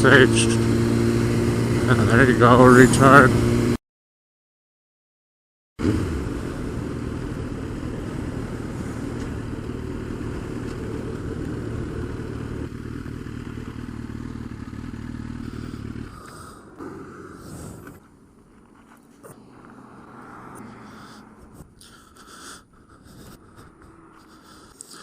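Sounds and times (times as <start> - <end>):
motorcycle engine running: 0.0 - 3.8, 5.8 - 22.1, 23.0 - 24.9.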